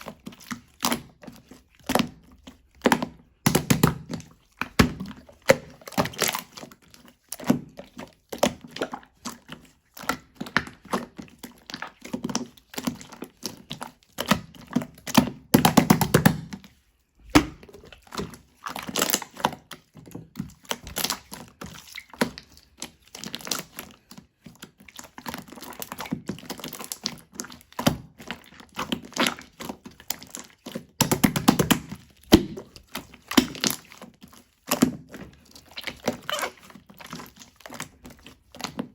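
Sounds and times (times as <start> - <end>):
slime squelching with wet pops: 0.0 - 38.9.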